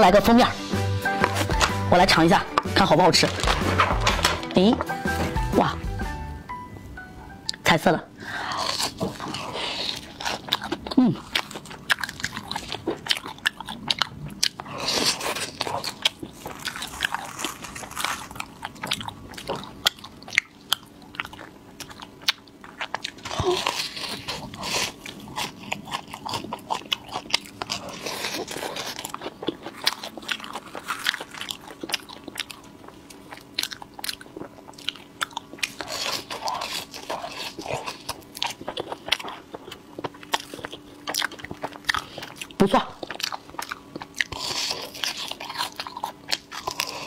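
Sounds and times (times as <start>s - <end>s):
wet chewing and lip smacking: 8.8s - 47.0s.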